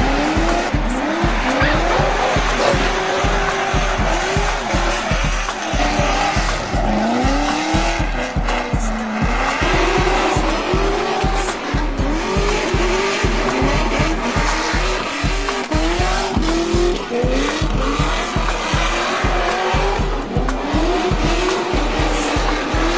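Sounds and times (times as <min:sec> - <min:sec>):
car engine revving: 0:00.0 - 0:22.9
music with heavy bass beat: 0:00.0 - 0:22.9.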